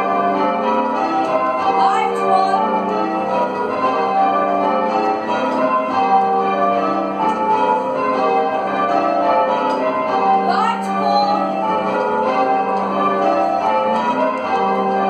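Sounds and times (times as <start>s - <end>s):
church bells change ringing: 0.0s - 15.0s.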